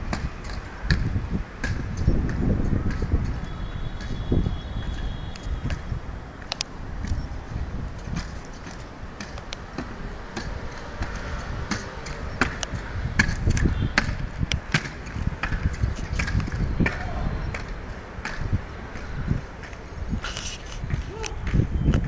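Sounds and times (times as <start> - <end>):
stilts knocking on paving stones: 0.0 - 22.0.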